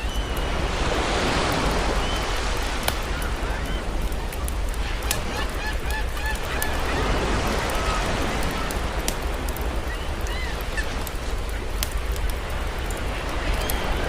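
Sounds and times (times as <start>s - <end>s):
campfire crackling and popping: 0.0s - 14.0s
sea surf: 0.0s - 14.0s.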